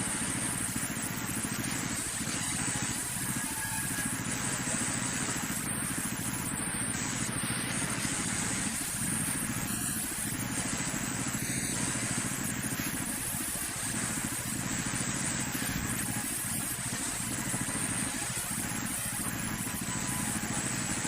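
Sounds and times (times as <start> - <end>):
sawmill machinery drone: 0.0 - 21.0.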